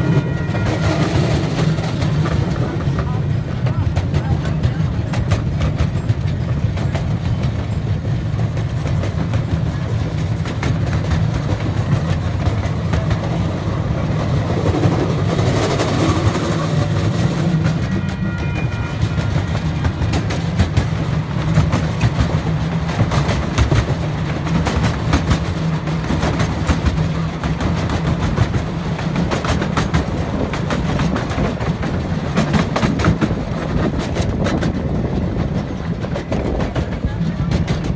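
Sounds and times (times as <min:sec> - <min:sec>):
miniature train cars rolling: 0:00.0 - 0:37.9
wheels clicking over rails: 0:00.0 - 0:37.9.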